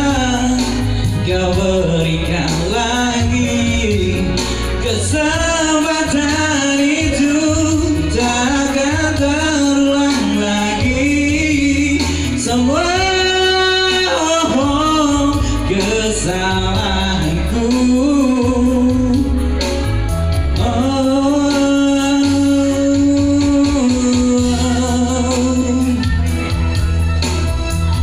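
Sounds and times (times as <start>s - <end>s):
electronic keyboard accompaniment: 0.0s - 28.0s
man singing pop ballad: 0.0s - 28.0s.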